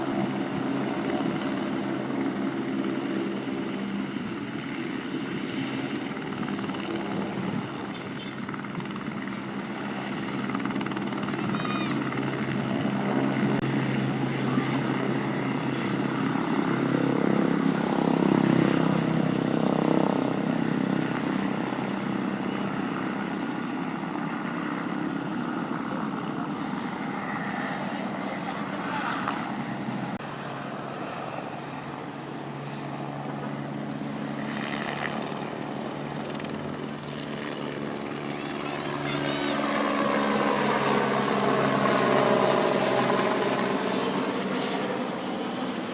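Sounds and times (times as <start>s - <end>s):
helicopter flying past: 0.0s - 45.9s.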